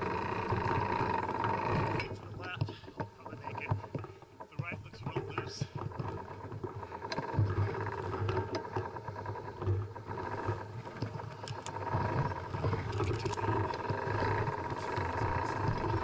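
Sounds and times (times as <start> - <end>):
bike clicks and rattles: 0.0 - 16.0
bike tyres rumbling on dirt: 0.0 - 16.0.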